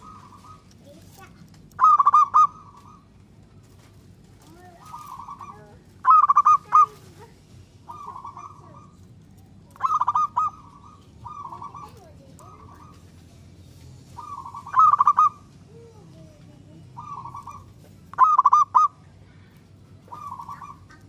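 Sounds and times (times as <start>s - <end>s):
dove cooing: 0.0s - 3.2s, 4.4s - 13.2s, 14.1s - 16.0s, 16.8s - 19.2s, 19.9s - 21.0s.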